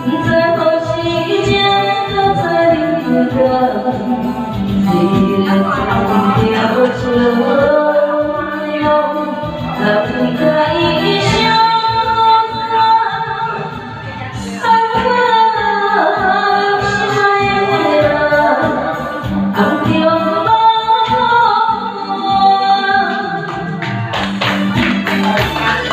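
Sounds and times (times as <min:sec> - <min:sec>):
woman singing a slow ballad: 0:00.0 - 0:13.8, 0:14.4 - 0:23.8
backing music: 0:00.0 - 0:25.9.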